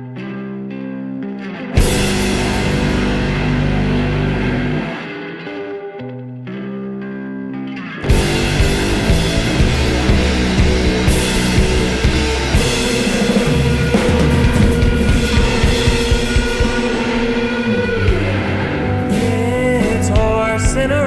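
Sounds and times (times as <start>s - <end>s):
rock band playing live: 1.5s - 6.0s, 7.8s - 21.0s.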